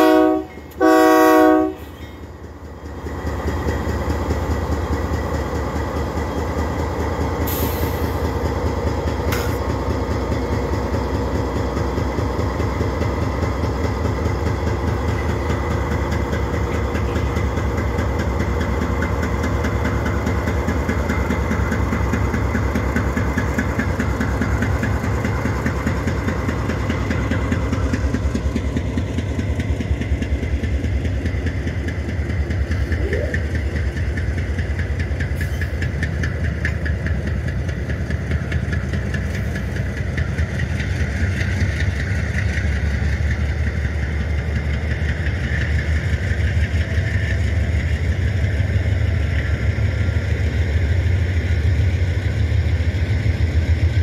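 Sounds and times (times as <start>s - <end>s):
diesel locomotive engines throbbing: 0.0s - 54.0s.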